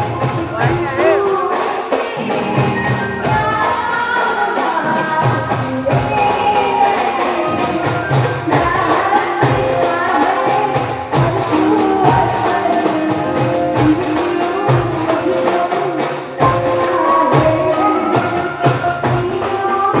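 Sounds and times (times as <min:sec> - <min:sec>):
percussion beat: 0:00.0 - 0:20.0.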